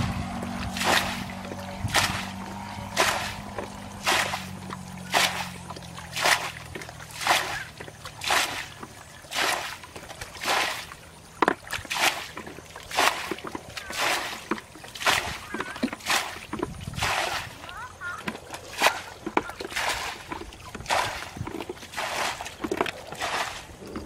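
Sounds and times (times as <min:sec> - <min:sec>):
water splashing from bucket: 0:00.0 - 0:24.0.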